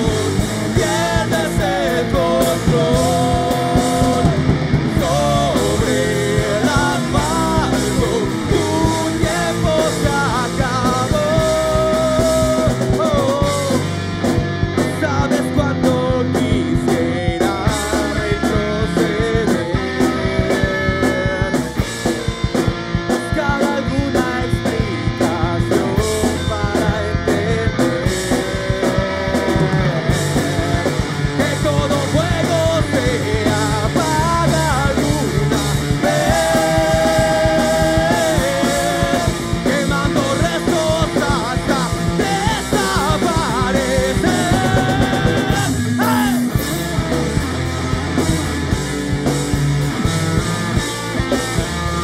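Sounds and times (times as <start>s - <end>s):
driving drum kit beat: 0.0s - 52.0s
electric guitar: 0.0s - 52.0s.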